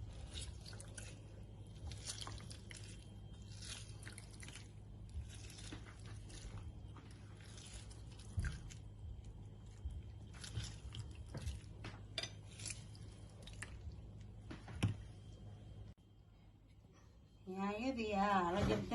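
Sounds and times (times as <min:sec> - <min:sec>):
food being prepared: 0:00.0 - 0:18.9.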